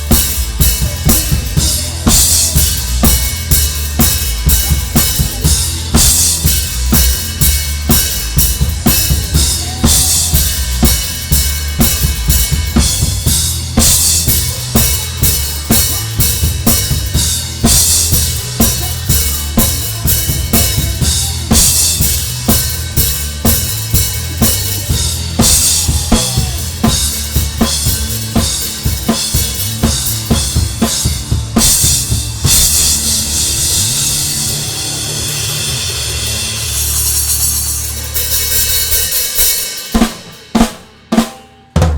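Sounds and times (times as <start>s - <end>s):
bass guitar: 0.0s - 40.1s
rock drum kit beat: 0.0s - 41.9s.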